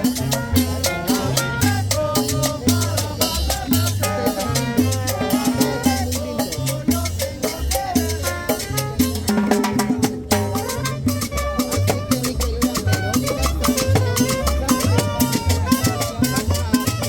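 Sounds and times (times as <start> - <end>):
upbeat latin dance music: 0.0 - 17.0.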